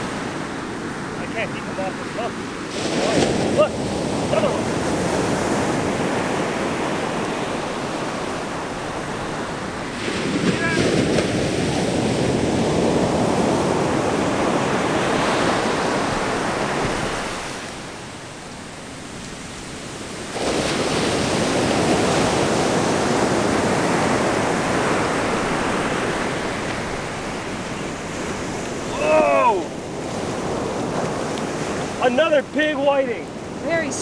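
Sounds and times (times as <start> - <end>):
ocean surf breaking on beach: 0.0 - 34.0.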